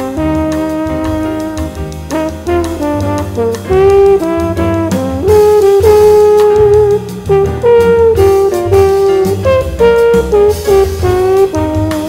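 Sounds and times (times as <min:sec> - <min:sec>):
drums and bass: 0:00.0 - 0:12.0
saxophone melody: 0:00.0 - 0:12.0.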